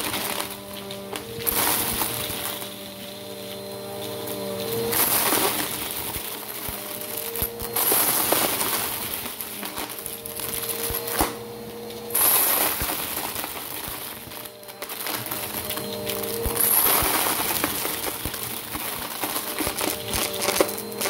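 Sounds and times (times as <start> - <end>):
upright vacuum cleaner running: 0.0 - 21.0.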